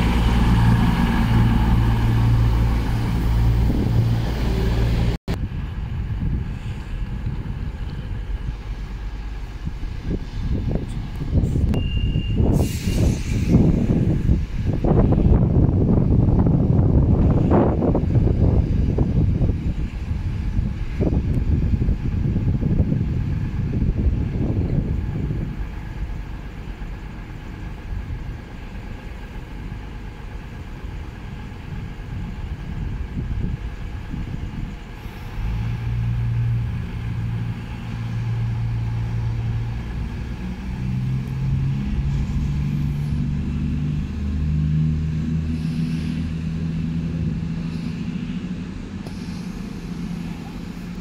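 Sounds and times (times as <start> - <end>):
diesel engines throttling up: 0.0 - 51.0
diesel train engines idling: 0.0 - 51.0.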